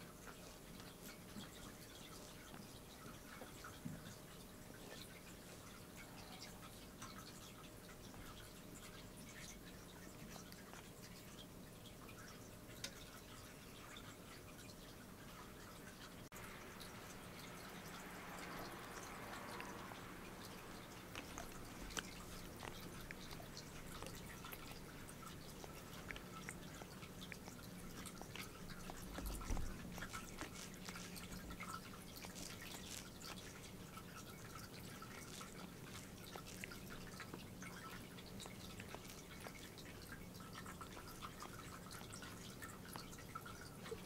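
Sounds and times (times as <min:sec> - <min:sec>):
cat grooming wet clicks: 0:00.0 - 0:44.0.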